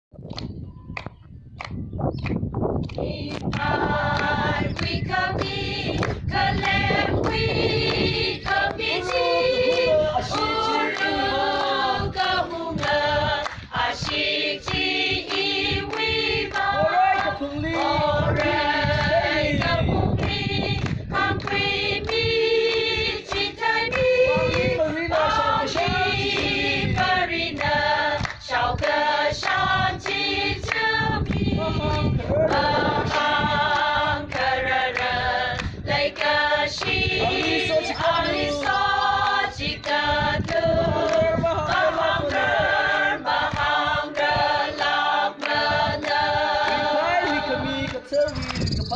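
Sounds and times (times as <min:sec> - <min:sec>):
hands clapping in time: 0:00.2 - 0:11.8, 0:12.8 - 0:42.5, 0:43.4 - 0:48.9
mixed choir singing: 0:03.0 - 0:48.1.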